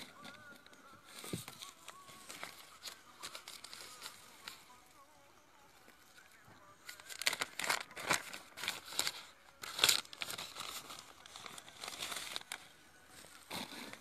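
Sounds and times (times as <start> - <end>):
plastic sleeve crinkling: 0.0 - 5.1, 6.7 - 14.0.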